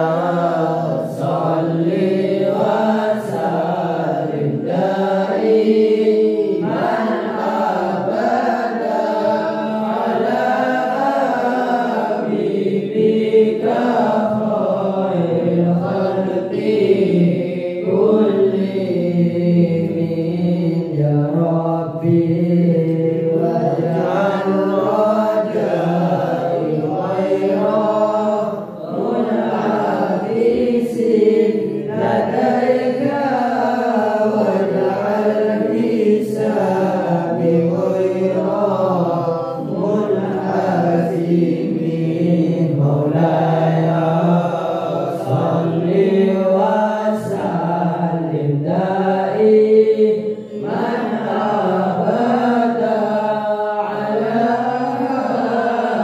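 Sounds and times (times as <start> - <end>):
boys chanting devotional praise: 0.0 - 56.0.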